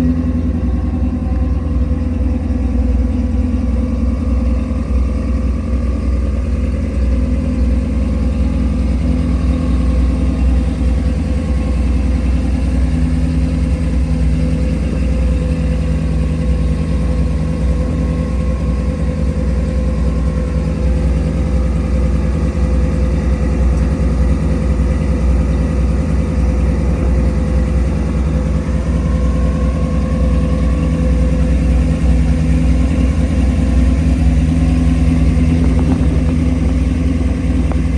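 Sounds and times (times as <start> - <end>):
engine idling: 0.0 - 37.9.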